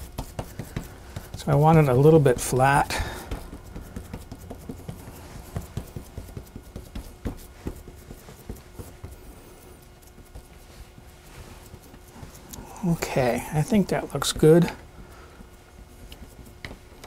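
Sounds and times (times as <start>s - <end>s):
hands patting sticky dough: 0.0s - 17.0s.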